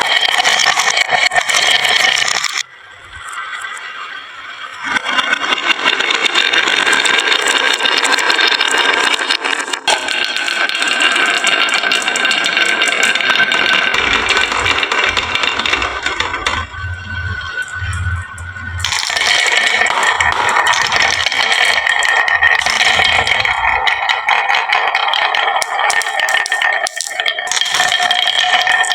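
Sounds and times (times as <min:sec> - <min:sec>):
marbles clattering down wooden run: 0:00.0 - 0:02.6, 0:04.8 - 0:28.9.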